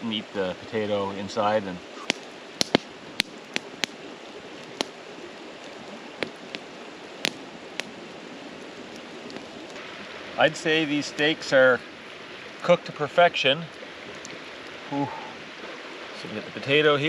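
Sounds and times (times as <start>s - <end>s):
stream rushing: 0.0s - 17.0s
campfire crackling and popping: 0.8s - 17.0s.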